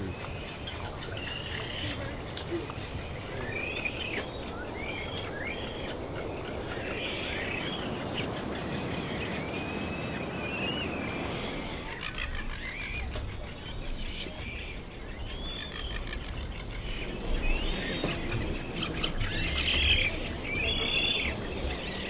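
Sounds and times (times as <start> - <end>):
seabirds calling: 0.0 - 22.0.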